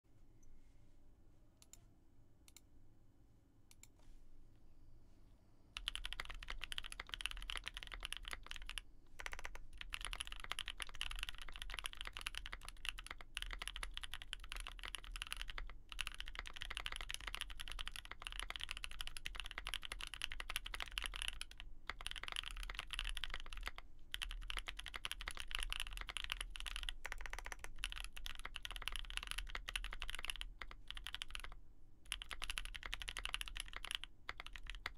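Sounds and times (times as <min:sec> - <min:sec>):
mechanical keyboard typing: 0:05.8 - 0:34.9.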